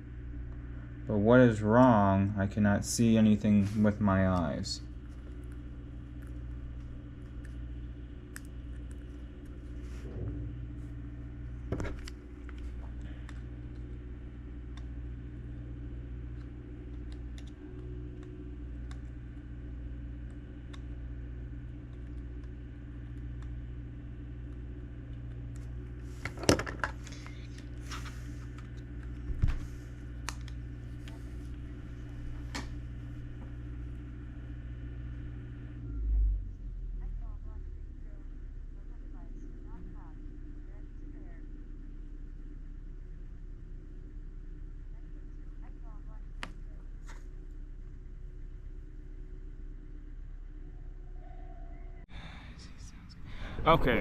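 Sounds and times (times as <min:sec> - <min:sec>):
low room hum: 0:00.0 - 0:54.0.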